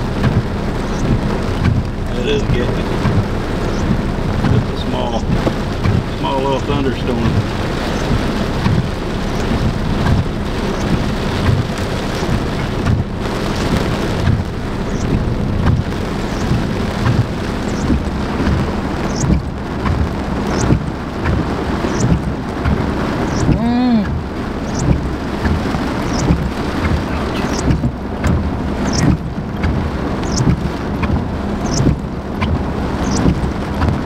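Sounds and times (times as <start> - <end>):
heavy rain on car roof: 0.0 - 34.0.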